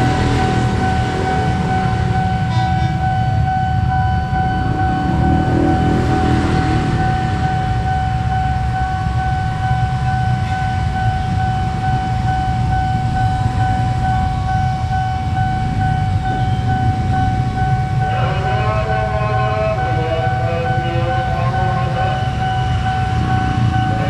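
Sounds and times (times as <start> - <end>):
electric train rumbling: 0.0 - 24.0
level crossing alarm tone: 0.0 - 24.0.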